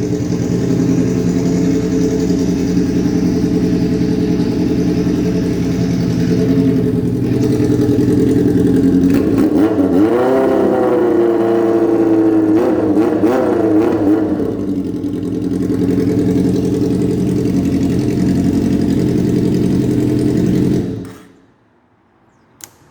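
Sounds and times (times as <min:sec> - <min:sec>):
motorcycle engine idling and revving: 0:00.0 - 0:21.6.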